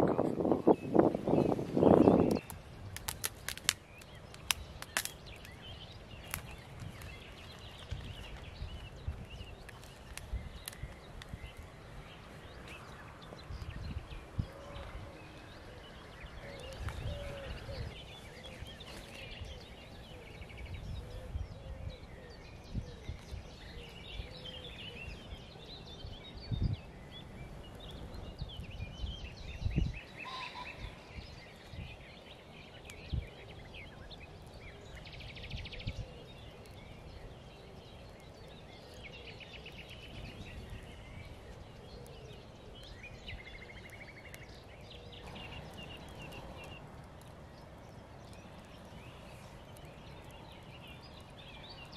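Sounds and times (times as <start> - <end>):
birds singing and calling: 0.0 - 51.9.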